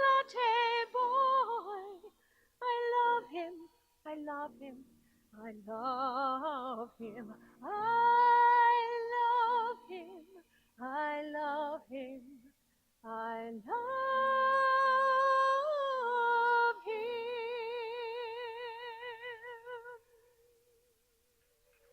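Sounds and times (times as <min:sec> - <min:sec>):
woman singing: 0:00.0 - 0:20.2.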